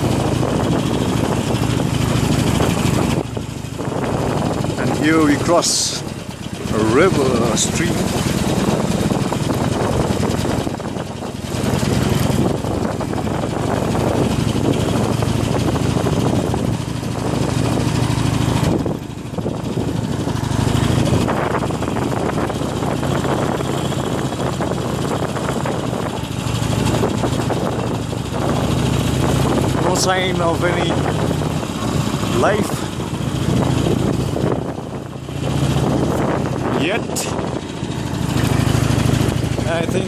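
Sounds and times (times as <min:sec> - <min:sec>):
motorcycle engine at low speed: 0:00.0 - 0:40.0.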